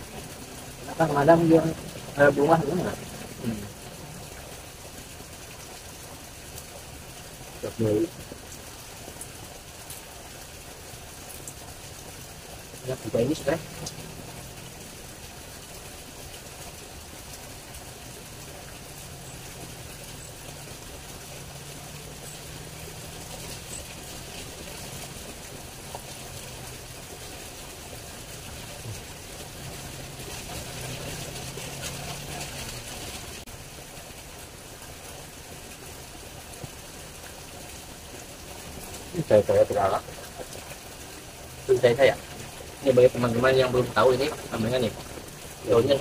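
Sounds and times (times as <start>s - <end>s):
stream running water: 0.0s - 46.0s.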